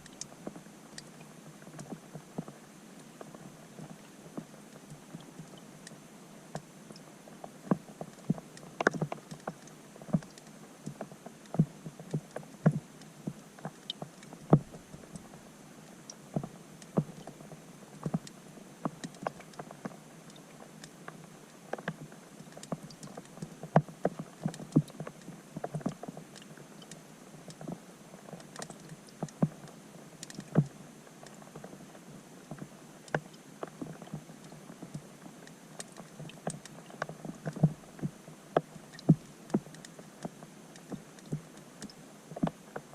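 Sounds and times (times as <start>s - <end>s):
faint steady hiss: 0.0s - 42.9s
raindrops striking water underwater: 0.0s - 42.9s.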